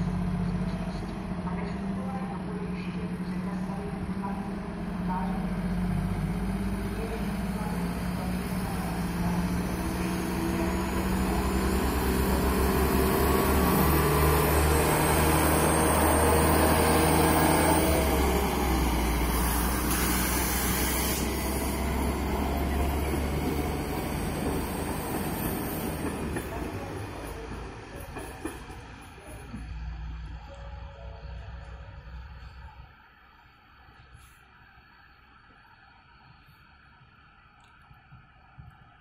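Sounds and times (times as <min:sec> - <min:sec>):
diesel railcar engine: 0:00.0 - 0:37.4.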